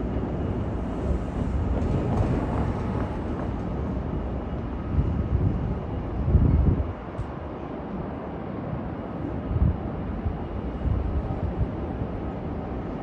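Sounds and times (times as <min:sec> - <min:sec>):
jet airliner engine rumble: 0:00.0 - 0:13.0.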